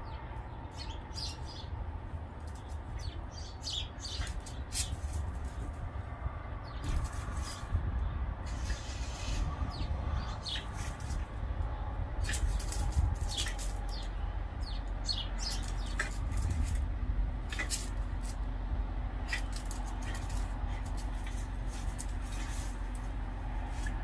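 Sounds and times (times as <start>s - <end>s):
small birds chirping: 0.0s - 5.8s, 6.6s - 18.5s, 19.1s - 24.0s
steady low rumble: 0.0s - 24.0s.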